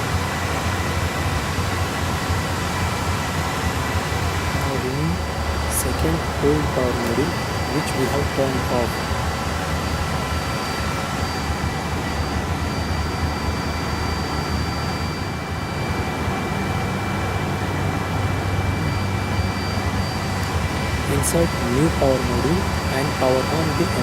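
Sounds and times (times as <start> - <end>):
equipment cooling fans whirring: 0.0 - 24.0.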